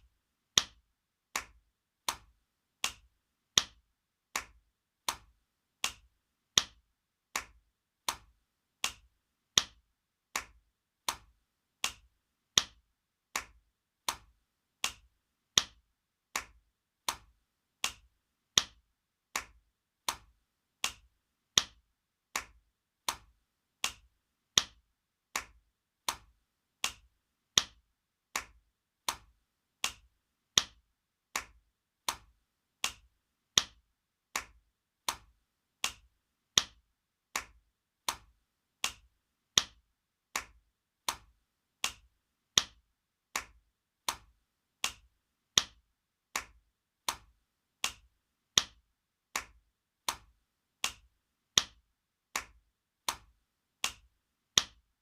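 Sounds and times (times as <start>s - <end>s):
hand slapping skin: 0.6s - 54.8s.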